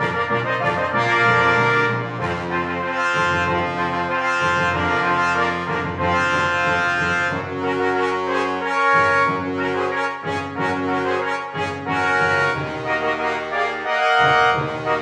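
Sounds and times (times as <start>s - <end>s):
brass instrumental music: 0.0s - 15.0s.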